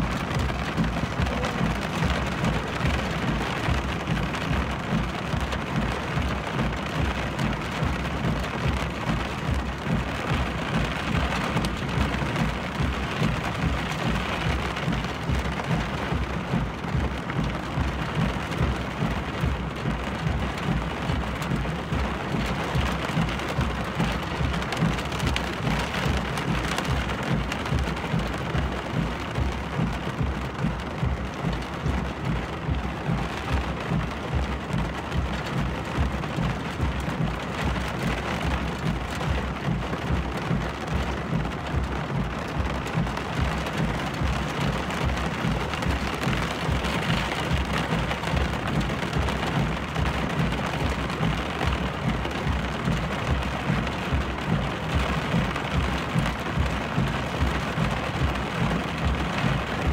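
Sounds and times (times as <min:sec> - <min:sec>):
rain on vehicle: 0:00.0 - 0:59.9.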